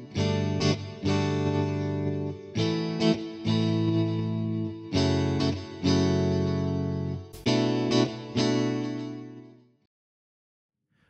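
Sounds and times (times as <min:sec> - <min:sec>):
guitar chords strummed: 0:00.0 - 0:09.6.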